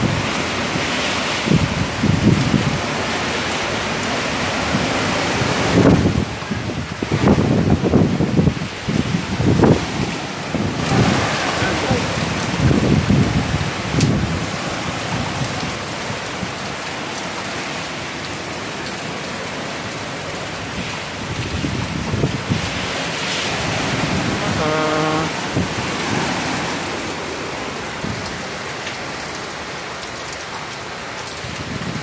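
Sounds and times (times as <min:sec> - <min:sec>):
wind gusts rumbling on microphone: 0:00.0 - 0:17.2, 0:19.8 - 0:28.7, 0:31.4 - 0:32.0
wind and heavy rain: 0:00.0 - 0:32.0.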